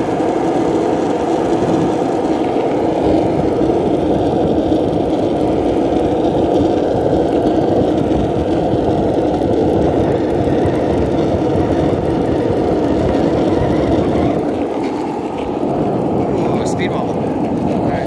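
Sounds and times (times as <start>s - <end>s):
skateboard wheels rolling on asphalt: 0.0s - 18.0s.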